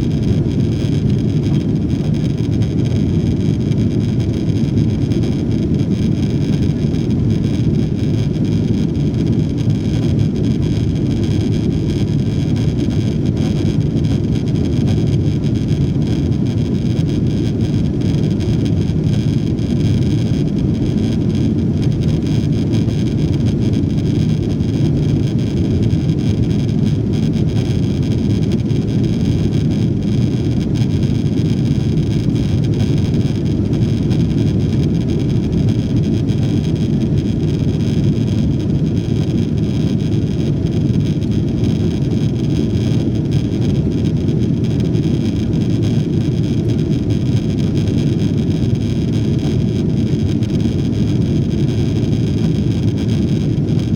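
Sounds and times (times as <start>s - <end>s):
jet engine rumble in cabin: 0.0s - 53.9s.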